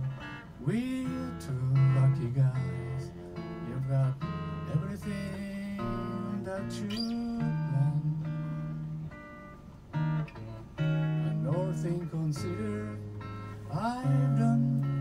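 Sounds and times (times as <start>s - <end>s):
guitar backing: 0.0s - 15.0s.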